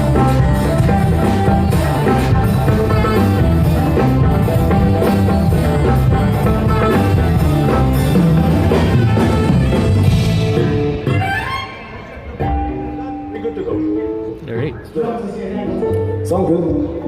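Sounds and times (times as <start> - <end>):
drum kit beat: 0.0 - 14.2
guitar: 0.0 - 17.0
rock band over pa system: 0.0 - 17.0.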